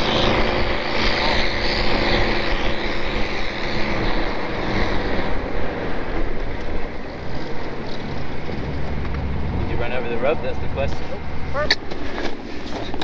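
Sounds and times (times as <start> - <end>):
continuous rushing noise: 0.0 - 13.0
vehicle engine running: 0.0 - 13.0.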